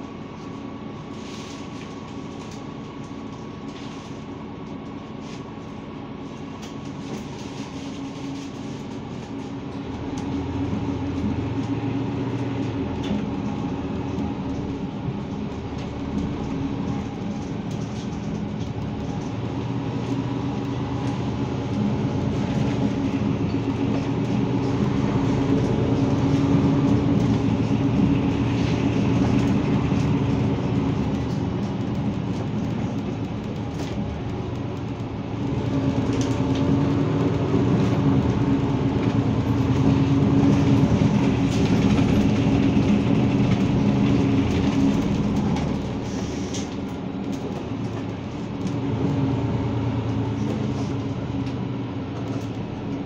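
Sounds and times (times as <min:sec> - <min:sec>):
bus engine humming: 0:00.0 - 0:53.0.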